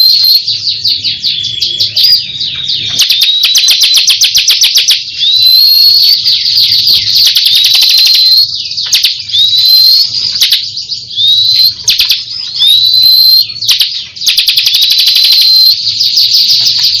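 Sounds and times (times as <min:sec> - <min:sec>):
bird singing sharp repeated notes: 0:00.0 - 0:17.0.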